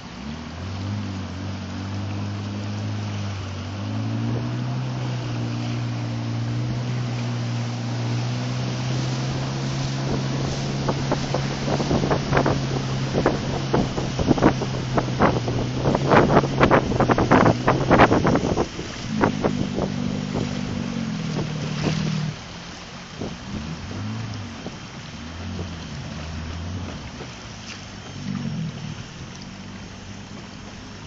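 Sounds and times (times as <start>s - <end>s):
outboard motor running: 0.0s - 31.0s
water slapping against hull: 0.0s - 31.0s.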